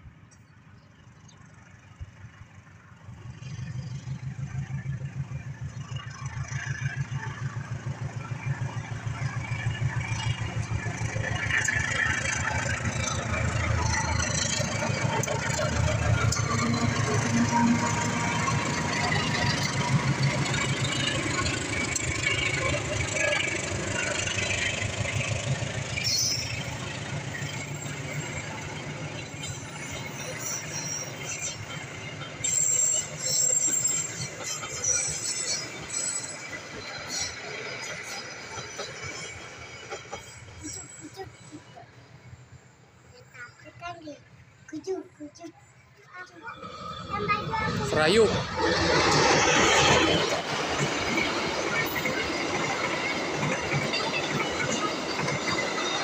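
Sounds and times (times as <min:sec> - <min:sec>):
train wheels rumbling on rails: 0:00.0 - 0:56.0
locomotive engine throbbing: 0:01.4 - 0:56.0
wheel squeals: 0:05.7 - 0:43.9, 0:44.8 - 0:56.0.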